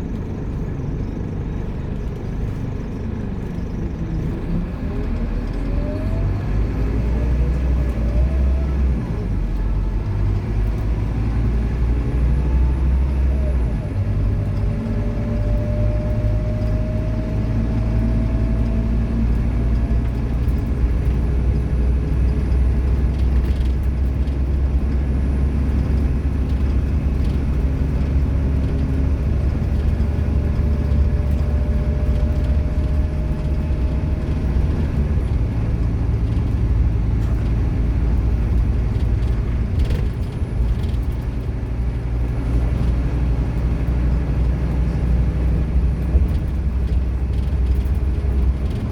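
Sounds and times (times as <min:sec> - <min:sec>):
bus diesel engine running: 0:00.0 - 0:48.9
rising drivetrain whine: 0:01.4 - 0:48.9.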